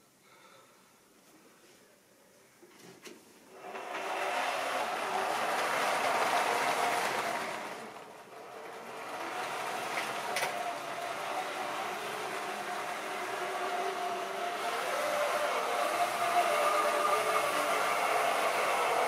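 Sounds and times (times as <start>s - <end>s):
model train wheels rattling on track: 3.5s - 19.0s
electric motor whining: 3.6s - 19.0s.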